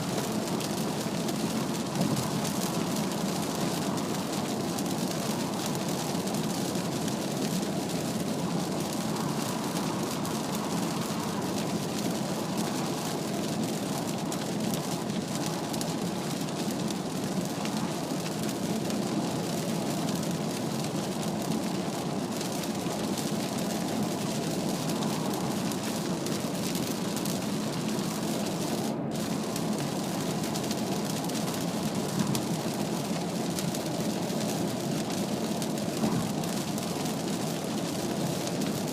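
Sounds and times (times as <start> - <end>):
rain on car body: 0.0 - 38.9
tyres hissing on wet road: 0.0 - 38.9.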